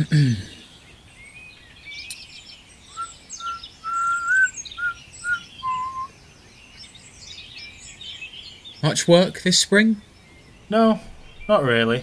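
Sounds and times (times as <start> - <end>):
songbirds twittering: 0.0 - 12.0
whistled bird notes: 0.5 - 9.0, 10.0 - 12.0.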